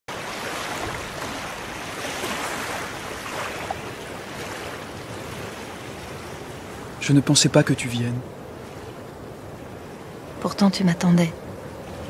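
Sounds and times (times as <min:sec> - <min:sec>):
river water: 0:00.1 - 0:12.0
wind: 0:00.1 - 0:12.0.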